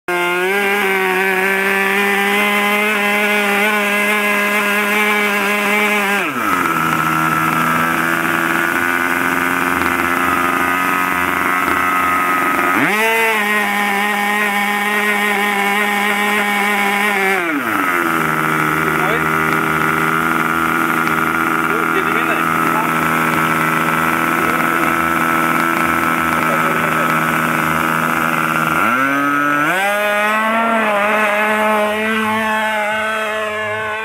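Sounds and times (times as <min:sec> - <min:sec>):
model plane engine revving: 0:00.1 - 0:34.0.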